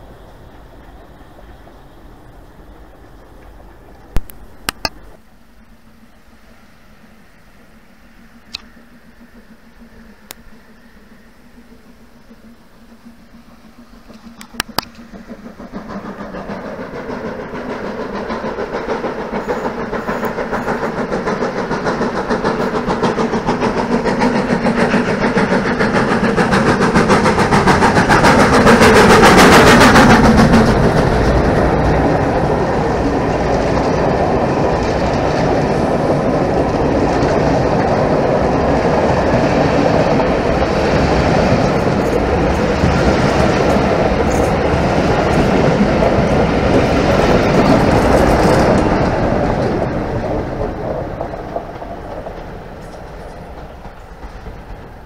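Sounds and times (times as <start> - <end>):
steam locomotive passing: 0.0 - 55.0
train wheels clickety-clack: 0.0 - 55.0.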